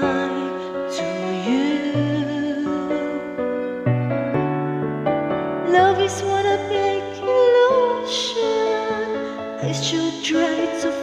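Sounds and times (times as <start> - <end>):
woman singing into a microphone: 0.0 - 3.8, 5.6 - 11.0
instrumental backing track chords: 0.0 - 11.0.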